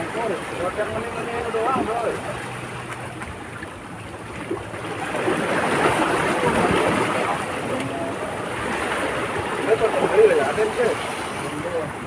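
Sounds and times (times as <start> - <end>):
small waves washing over rocks: 0.0 - 12.0.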